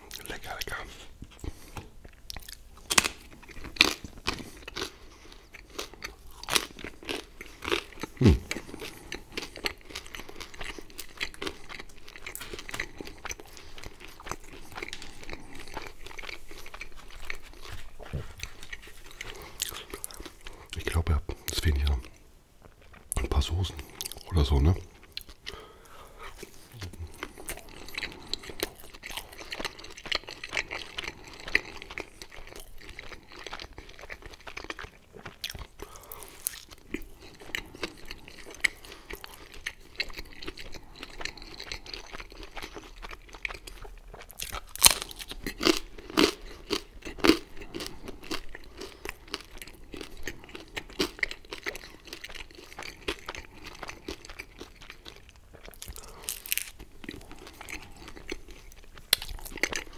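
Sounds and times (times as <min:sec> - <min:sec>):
chewing crunchy pizza crust: 0:00.0 - 0:59.9.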